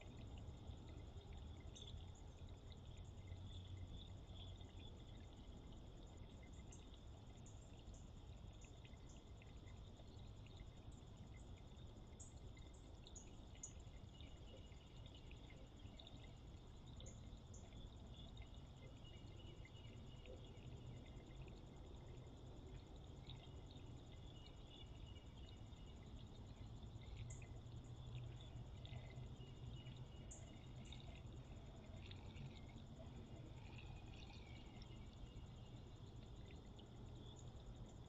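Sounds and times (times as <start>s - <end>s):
night insects trilling: 0.0s - 38.0s.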